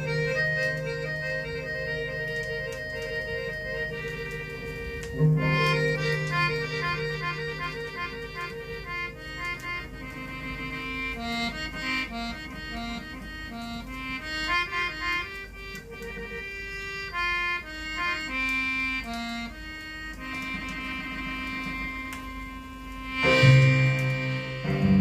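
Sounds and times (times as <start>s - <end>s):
band playing from gramophone record: 0.0s - 25.0s.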